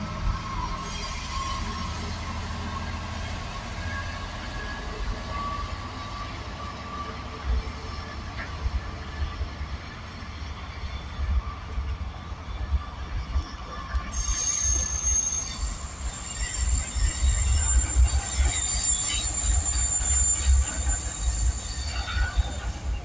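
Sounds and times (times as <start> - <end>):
diesel locomotive engine: 0.0 - 23.0
wagons rumbling on track: 0.0 - 23.0.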